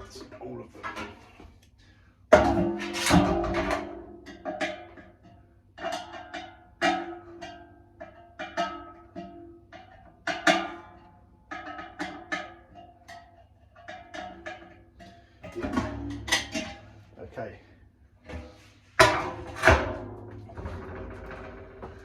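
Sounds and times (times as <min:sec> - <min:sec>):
knocks and clanks on sheet metal: 0:02.3 - 0:17.1, 0:18.2 - 0:22.0.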